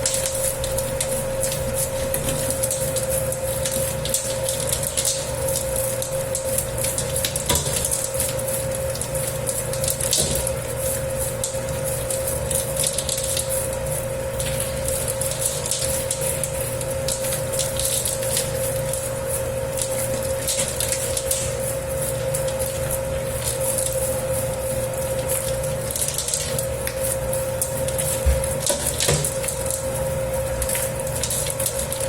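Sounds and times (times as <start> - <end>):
wet churning of dough: 0.0 - 32.0.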